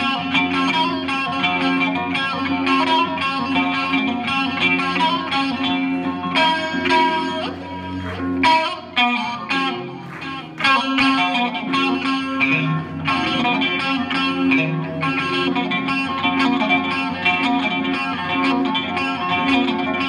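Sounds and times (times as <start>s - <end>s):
electric guitars playing: 0.0s - 20.0s.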